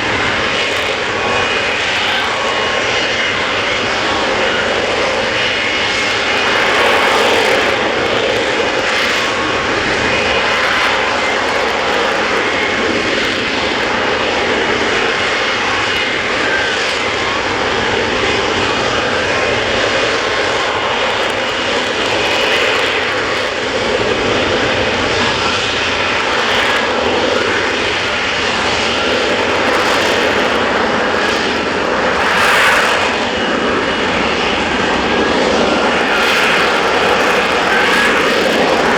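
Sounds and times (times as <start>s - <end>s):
jet engine running: 0.0s - 38.9s.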